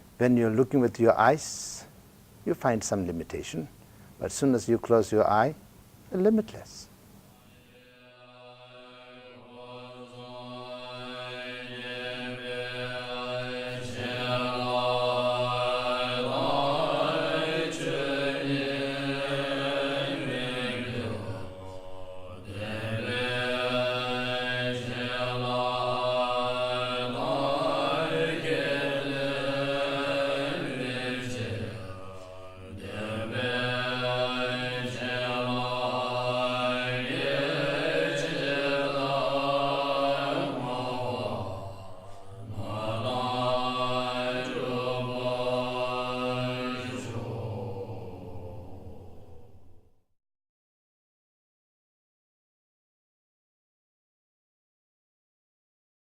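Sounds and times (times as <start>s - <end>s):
chanted mantra: 0.0s - 49.8s.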